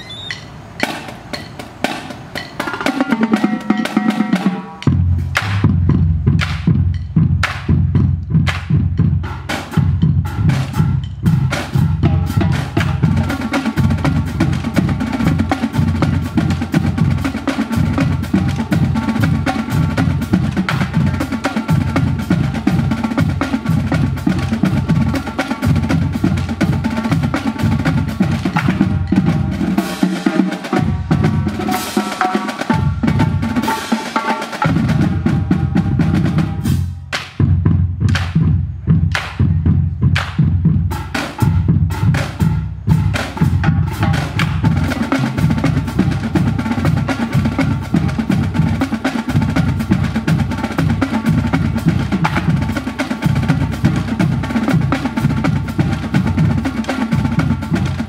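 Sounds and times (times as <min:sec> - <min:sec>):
snare drum strikes and rolls: 0:00.2 - 0:10.8, 0:11.4 - 0:58.0
bass drums: 0:04.8 - 0:31.9, 0:32.6 - 0:33.7, 0:34.6 - 0:58.0.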